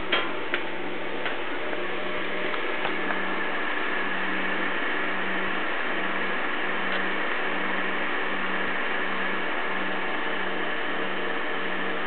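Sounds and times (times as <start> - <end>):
embroidery machine hum: 0.0 - 12.0.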